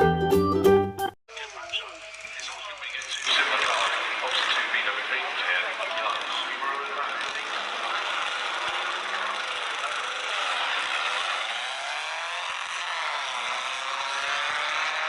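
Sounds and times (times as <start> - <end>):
racing car engines revving: 2.0 - 15.0.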